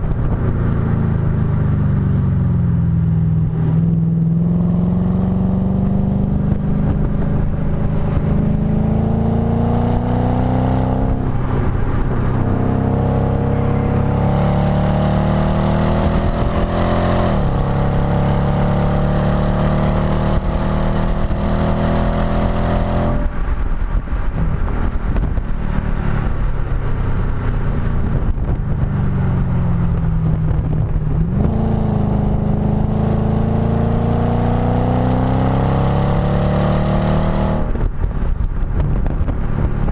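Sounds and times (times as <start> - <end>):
car engine revving: 3.4 - 27.3, 29.9 - 39.9.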